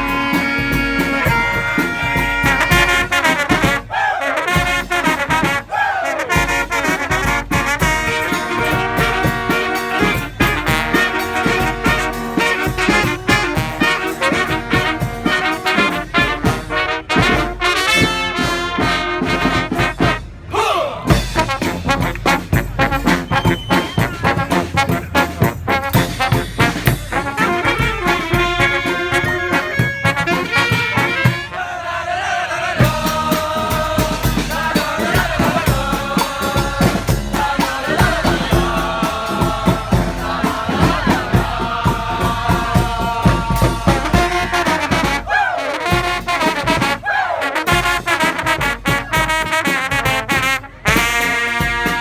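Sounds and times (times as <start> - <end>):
brass band playing dance tune: 0.0 - 52.0.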